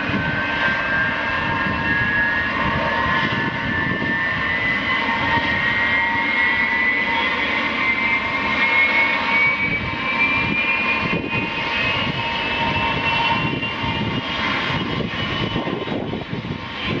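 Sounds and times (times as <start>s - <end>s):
jet engines whining while taxiing: 0.0s - 17.0s.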